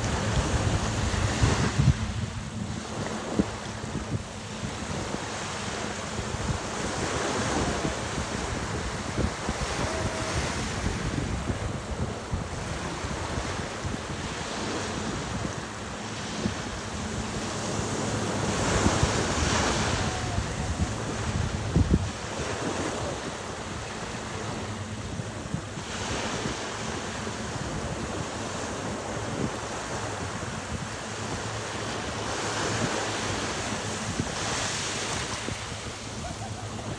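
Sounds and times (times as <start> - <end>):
small waves breaking on shore: 0.0 - 36.9
wind rumbling on microphone: 0.0 - 36.9.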